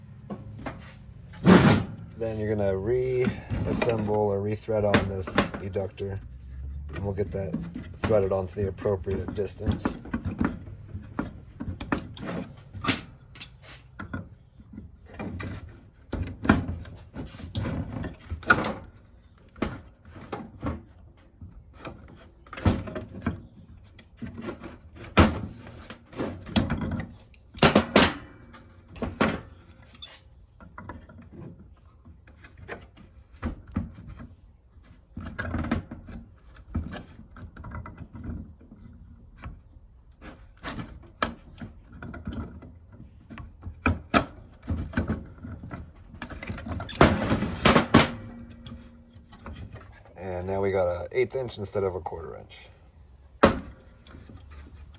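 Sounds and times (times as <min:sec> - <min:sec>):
knocks clicks and rubbing of parts: 0:00.2 - 0:50.2, 0:53.3 - 0:54.9.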